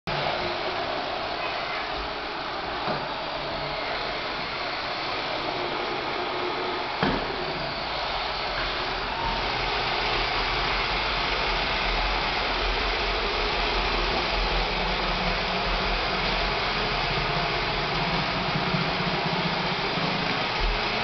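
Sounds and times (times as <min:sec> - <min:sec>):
robot vacuum whirring: 0:00.1 - 0:21.0.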